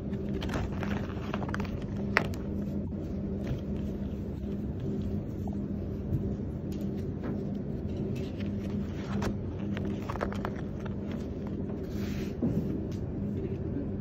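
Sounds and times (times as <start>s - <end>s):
paper and fabric rustling: 0.0s - 13.3s
low machine hum: 0.0s - 14.0s.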